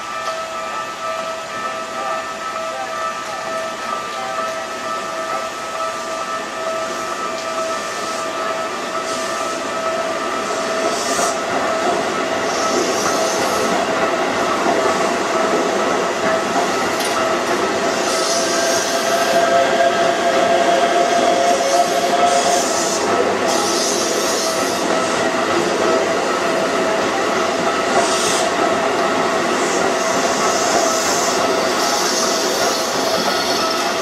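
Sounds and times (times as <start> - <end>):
electric train running: 0.0 - 34.0
level crossing warning bells: 0.0 - 34.0.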